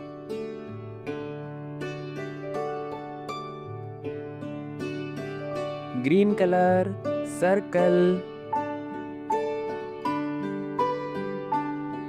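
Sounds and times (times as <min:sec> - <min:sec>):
plucked keyboard notes: 0:00.0 - 0:12.0.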